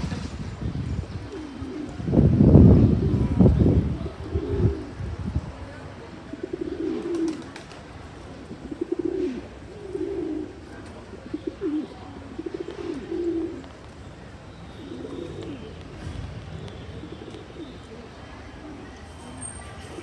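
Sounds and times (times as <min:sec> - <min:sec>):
pigeons cooing: 0:00.1 - 0:05.4, 0:06.2 - 0:13.8, 0:14.6 - 0:16.0, 0:16.6 - 0:20.0.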